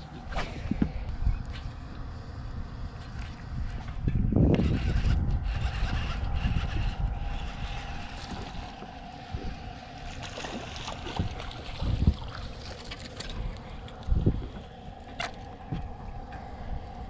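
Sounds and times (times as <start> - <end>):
boat motor whining: 0.0 - 17.0
wind rumbling on microphone: 0.0 - 17.0.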